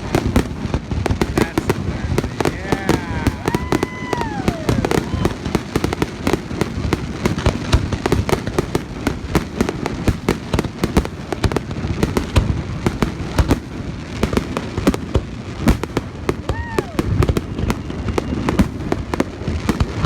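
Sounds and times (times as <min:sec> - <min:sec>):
fireworks bangs and crackling pops: 0:00.0 - 0:20.0.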